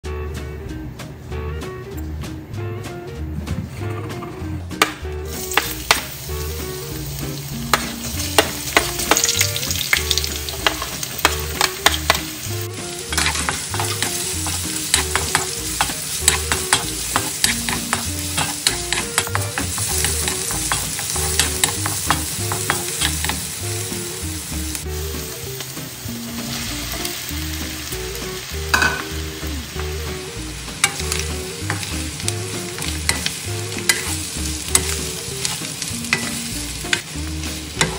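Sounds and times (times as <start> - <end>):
food sizzling in oil: 5.0 - 37.9.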